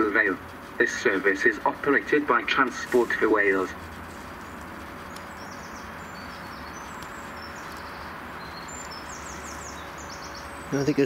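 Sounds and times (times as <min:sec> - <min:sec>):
outdoor background hum: 0:00.0 - 0:11.0
small birds chirping: 0:00.0 - 0:11.0.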